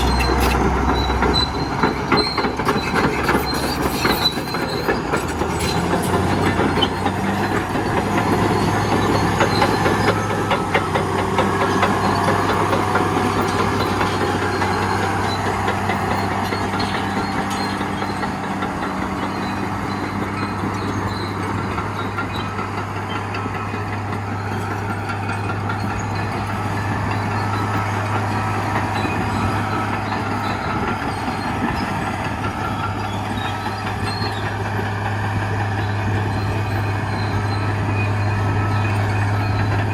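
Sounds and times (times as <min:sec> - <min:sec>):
diesel engine idling: 0:00.0 - 0:39.9
railroad cars clattering on rails: 0:00.0 - 0:39.9.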